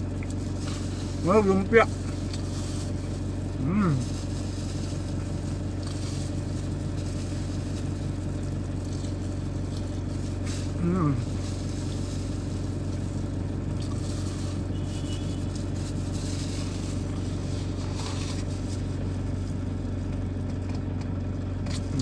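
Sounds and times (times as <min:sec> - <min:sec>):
van engine idling: 0:00.0 - 0:22.0.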